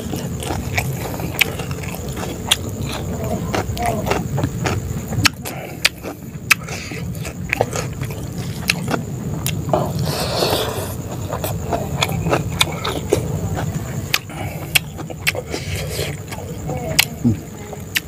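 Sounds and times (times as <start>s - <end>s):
chewing with mouth clicks: 0.0s - 18.0s
steady low hum: 0.0s - 18.0s.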